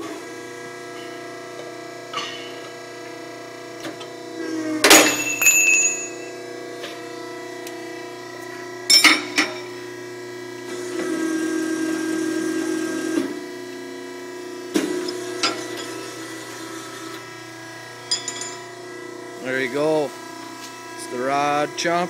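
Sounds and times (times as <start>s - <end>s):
rebar bender motor humming: 0.0s - 22.0s.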